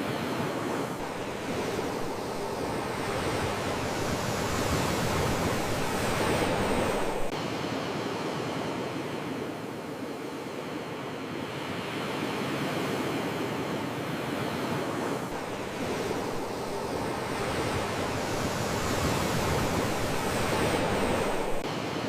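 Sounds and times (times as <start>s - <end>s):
sea waves washing in: 0.0s - 10.5s, 11.6s - 22.0s.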